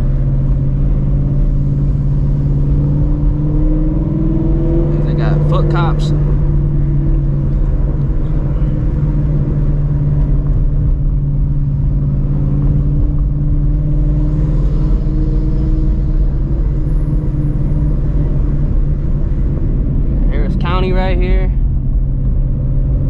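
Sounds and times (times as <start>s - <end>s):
deep exhaust rumble: 0.0s - 23.0s.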